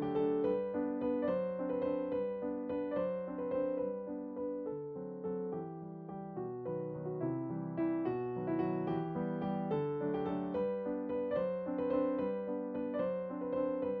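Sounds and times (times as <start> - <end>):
instrumental music: 0.0 - 14.0.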